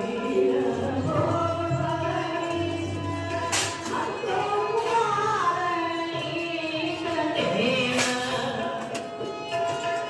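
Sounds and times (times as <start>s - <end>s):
instrumental accompaniment: 0.0s - 10.0s.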